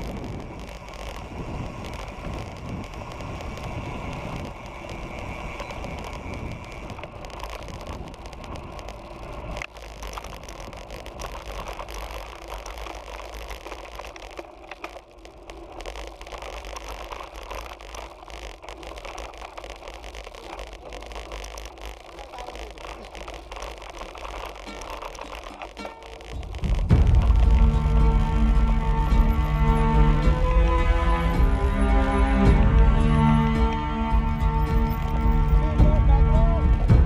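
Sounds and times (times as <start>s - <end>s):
tyre and road hiss: 0.0s - 37.0s
wind rumbling on microphone: 0.0s - 37.0s.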